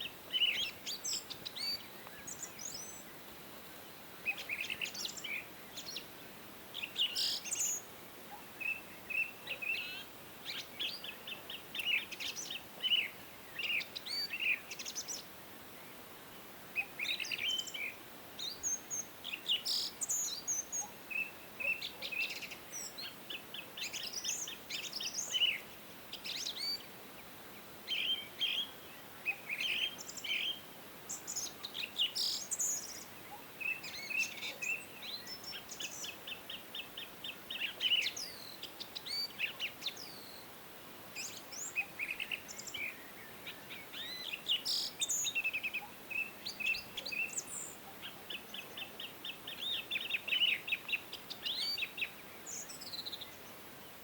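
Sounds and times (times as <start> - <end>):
faint steady hiss: 0.0 - 54.0
songbirds chirping and trilling: 0.0 - 54.0.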